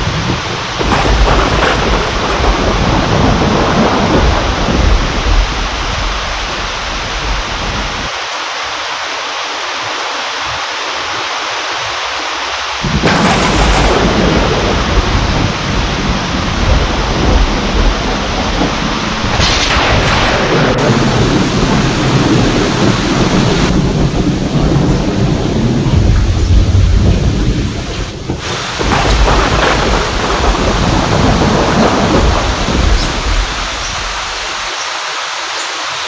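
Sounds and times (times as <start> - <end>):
thunder rumbling: 0.0 - 8.1, 12.8 - 34.7
heavy rain: 0.0 - 36.0.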